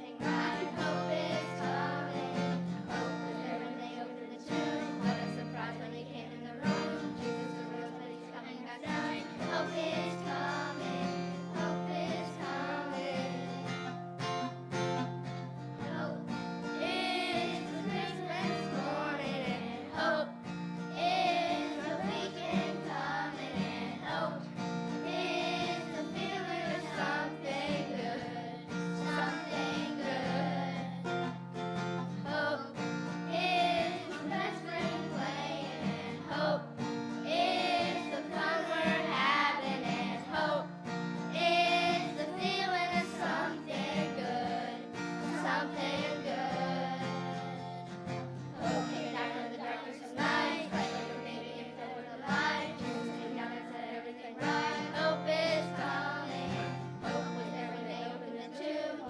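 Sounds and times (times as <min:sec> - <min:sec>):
people singing: 0:00.0 - 0:59.0
strummed acoustic guitar: 0:00.0 - 0:59.0.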